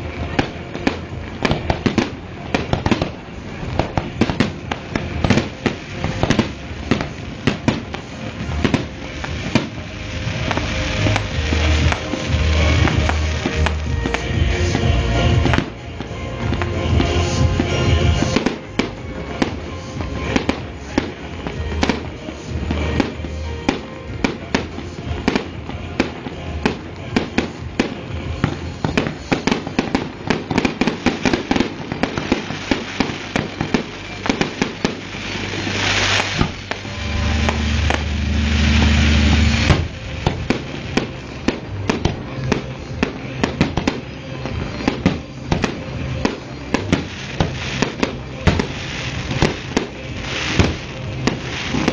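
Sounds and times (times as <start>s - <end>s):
fireworks bangs and crackles: 0.0s - 51.9s
music: 0.0s - 51.9s.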